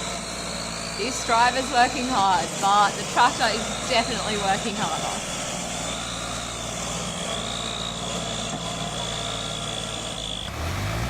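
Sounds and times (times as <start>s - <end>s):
thin high whine: 0.0s - 10.5s
tractor engine revving: 0.0s - 11.0s
tractor engine running: 0.0s - 11.0s.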